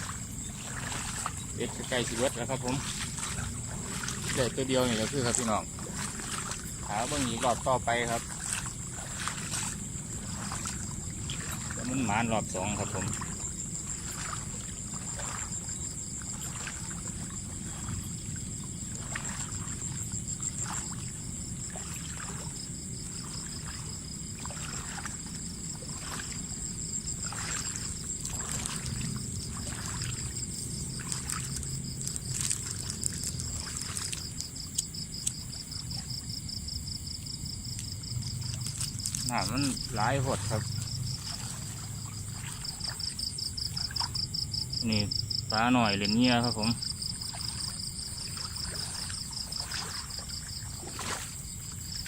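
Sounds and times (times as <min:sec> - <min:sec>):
insects trilling: 0:00.0 - 0:52.0
low rumble of moving water: 0:00.0 - 0:52.0
water splashing and sloshing: 0:00.0 - 0:52.0.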